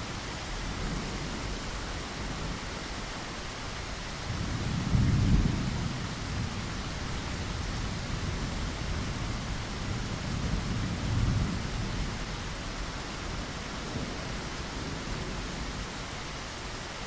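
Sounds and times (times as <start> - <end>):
low rumble of thunder: 0.0 - 17.0
rain falling: 0.0 - 17.0.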